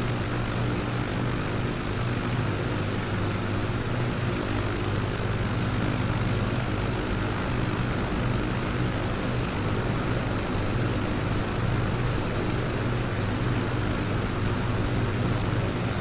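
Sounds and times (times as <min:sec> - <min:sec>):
propeller airplane engine: 0:00.0 - 0:16.0.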